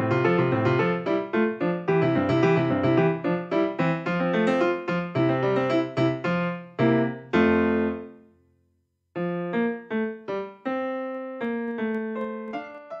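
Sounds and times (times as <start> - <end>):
piano music: 0.0 - 8.3, 9.2 - 13.0.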